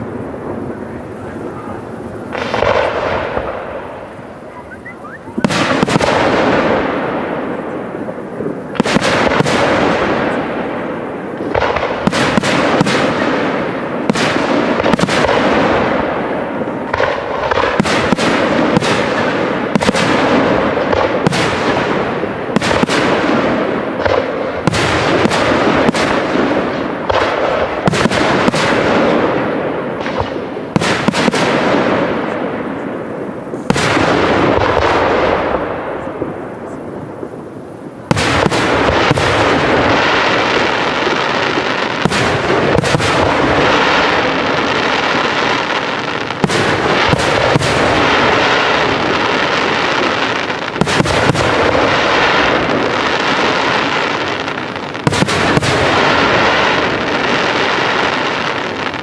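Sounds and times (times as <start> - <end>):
fireworks bursting with echo: 0.0 - 59.0.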